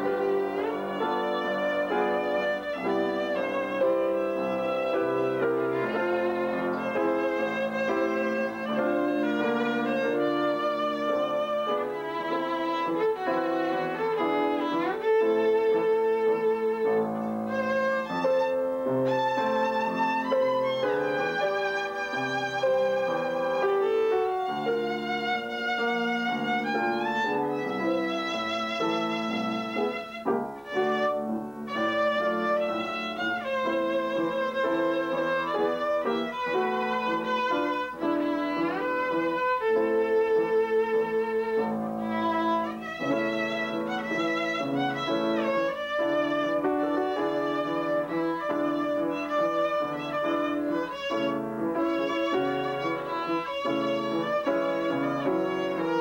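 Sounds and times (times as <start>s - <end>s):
upright piano: 0.0s - 56.0s
violin melody with vibrato: 0.0s - 56.0s.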